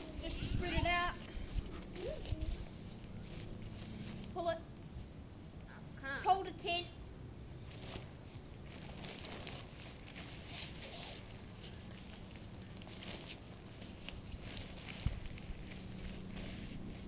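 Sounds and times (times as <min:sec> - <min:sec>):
tent fabric rustling: 0:00.0 - 0:05.2, 0:07.6 - 0:17.0.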